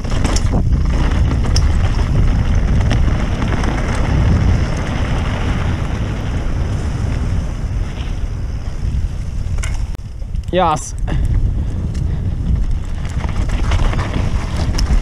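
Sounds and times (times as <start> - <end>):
bike clicks and rattles: 0.0 - 15.0
tyres rolling on dirt: 0.0 - 15.0
wind buffeting microphone: 0.0 - 15.0.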